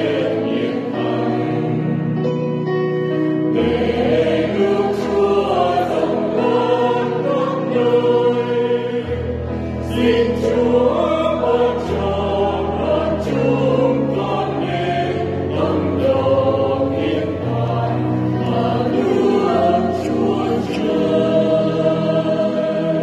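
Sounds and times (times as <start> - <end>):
choir singing a hymn: 0.0 - 23.0.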